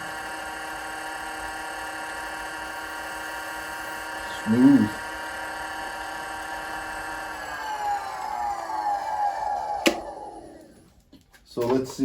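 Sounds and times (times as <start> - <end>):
wood lathe motor whining: 0.0 - 10.9.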